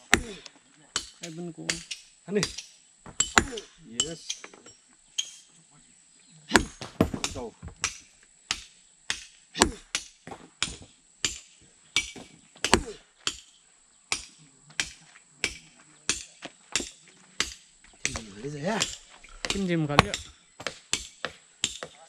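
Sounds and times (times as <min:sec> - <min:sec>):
hand tool chopping blows: 0:00.0 - 0:04.4, 0:06.5 - 0:13.5, 0:14.1 - 0:22.0.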